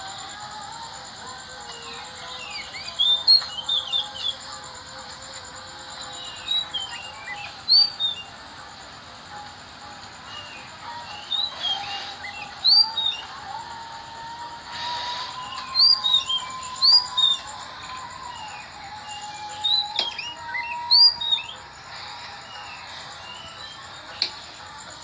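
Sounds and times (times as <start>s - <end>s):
bird singing whistled notes: 0.0s - 25.0s
long steady background tone: 0.0s - 25.0s.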